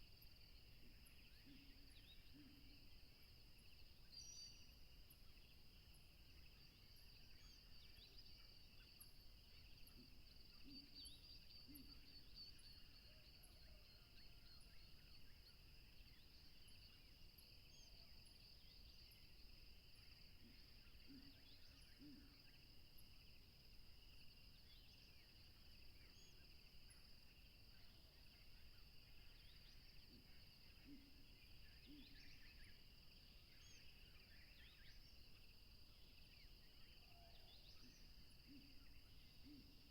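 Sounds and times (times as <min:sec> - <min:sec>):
faint birds chirping: 0:00.0 - 0:39.9
insect drone: 0:00.0 - 0:39.9.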